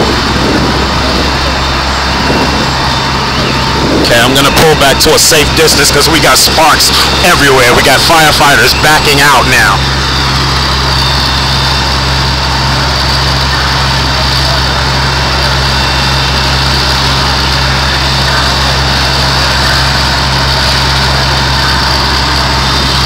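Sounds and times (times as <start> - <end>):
diesel engine drone: 0.0 - 23.0
water pump hiss: 0.0 - 23.0.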